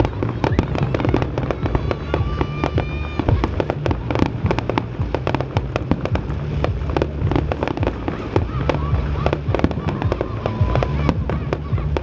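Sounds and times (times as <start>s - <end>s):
fireworks bangs and crackles: 0.0s - 12.0s
low rumble: 0.0s - 12.0s.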